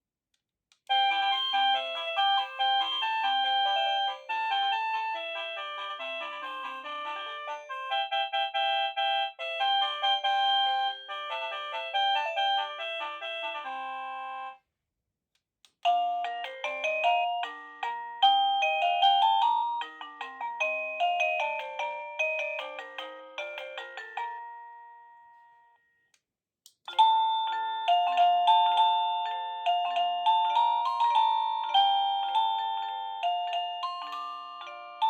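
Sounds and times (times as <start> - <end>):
electronic doorbell chime melody: 0.9 - 14.6, 15.9 - 25.8, 26.9 - 35.0.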